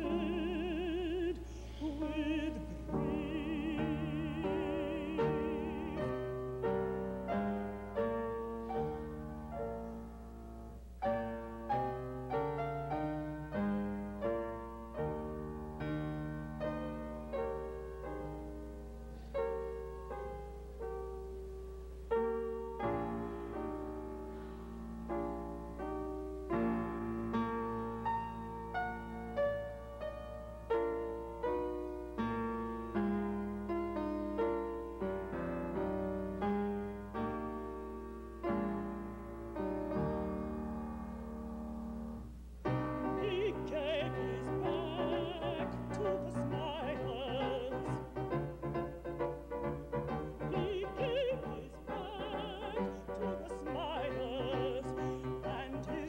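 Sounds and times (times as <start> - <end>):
piano chords: 0.0 - 56.0.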